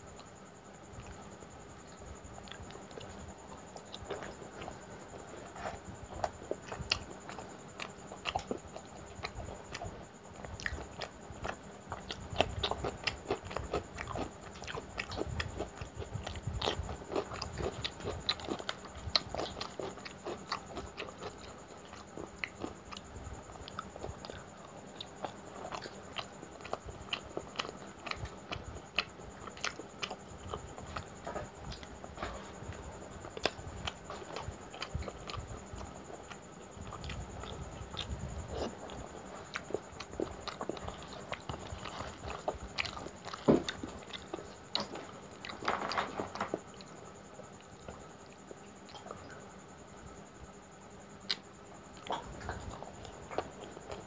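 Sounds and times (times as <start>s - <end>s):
wet chewing and lip-smacking: 2.3s - 45.6s.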